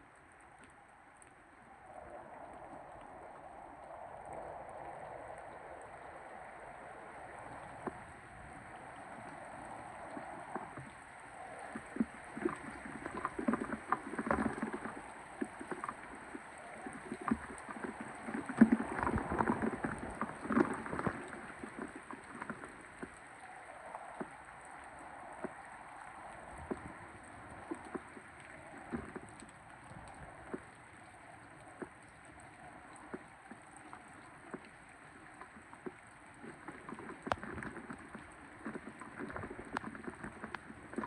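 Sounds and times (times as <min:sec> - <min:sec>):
rain pelting and splashing: 0:00.0 - 0:41.0
rain and wind rushing: 0:01.7 - 0:41.0.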